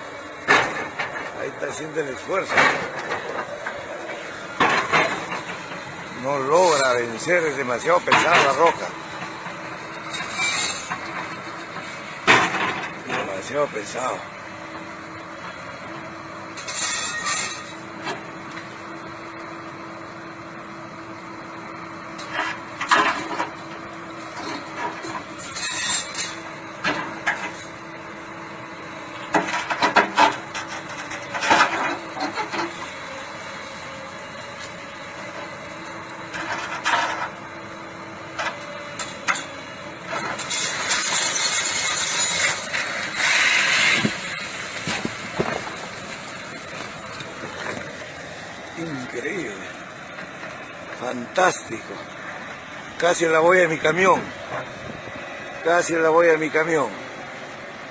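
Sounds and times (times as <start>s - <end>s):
backhoe engine running under load: 0.0s - 57.9s.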